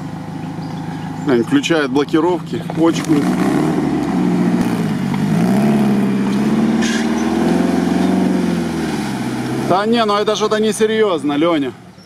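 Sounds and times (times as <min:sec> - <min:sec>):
off-road engine pulling under load: 0:00.0 - 0:12.0.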